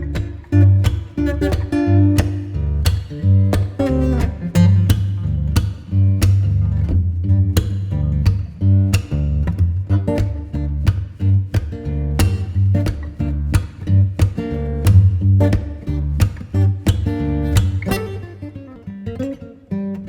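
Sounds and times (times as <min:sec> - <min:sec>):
guitar instrumental with bass: 0:00.0 - 0:20.0.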